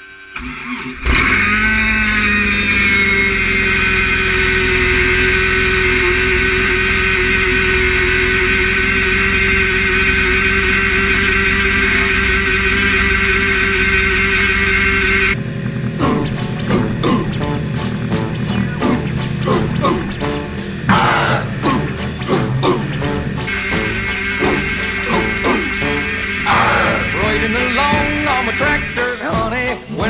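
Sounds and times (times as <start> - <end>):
engine revving: 0.4 - 29.6.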